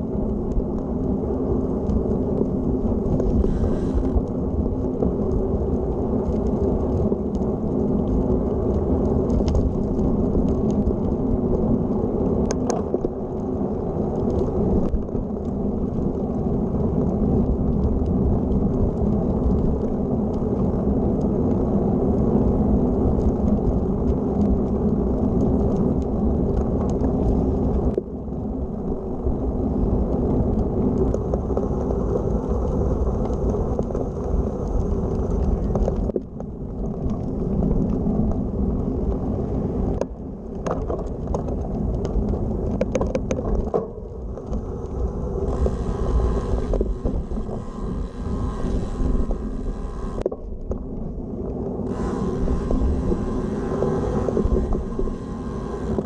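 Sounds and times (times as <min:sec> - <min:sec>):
bike tyres rolling on path: 0:00.0 - 0:56.0
wind on microphone: 0:00.0 - 0:56.0.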